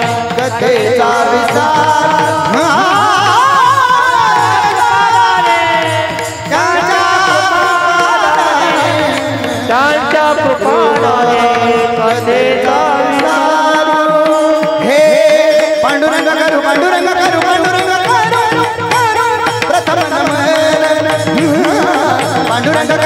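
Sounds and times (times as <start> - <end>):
hand drum rhythm: 0.0 - 23.0
person singing: 0.0 - 23.0.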